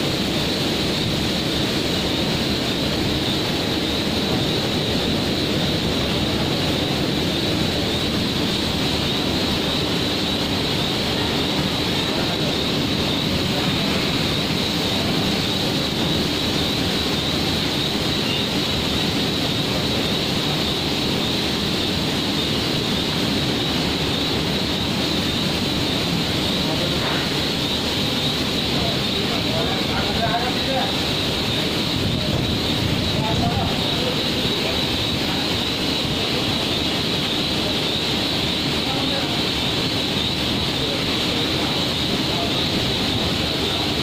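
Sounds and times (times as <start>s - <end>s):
factory machinery roar: 0.0s - 44.0s.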